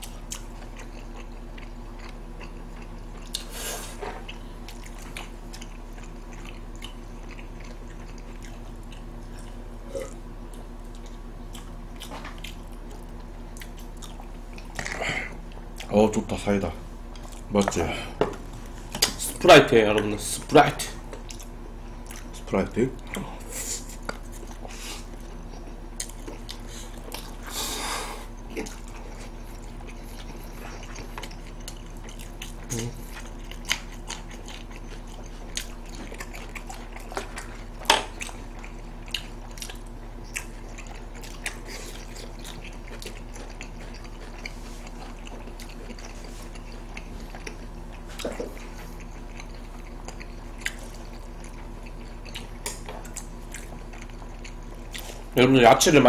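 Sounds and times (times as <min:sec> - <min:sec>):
low electrical hum: 0:00.0 - 0:56.0
people chewing and eating: 0:00.0 - 0:56.0.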